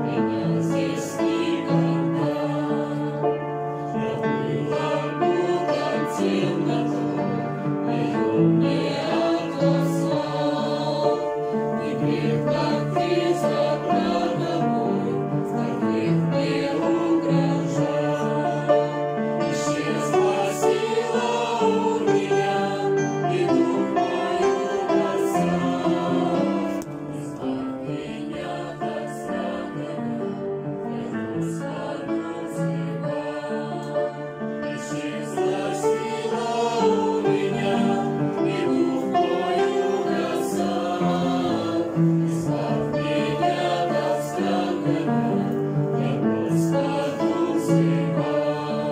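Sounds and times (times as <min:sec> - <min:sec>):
choir singing a hymn: 0:00.0 - 0:48.9
piano accompaniment: 0:00.0 - 0:48.9.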